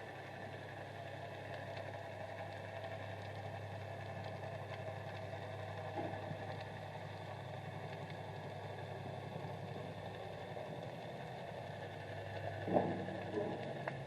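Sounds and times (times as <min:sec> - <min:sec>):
underwater engine drone: 0:00.0 - 0:14.0.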